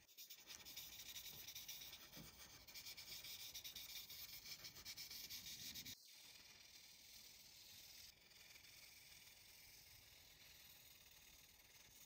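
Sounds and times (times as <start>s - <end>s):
marker scratching on paper: 0.0s - 12.0s.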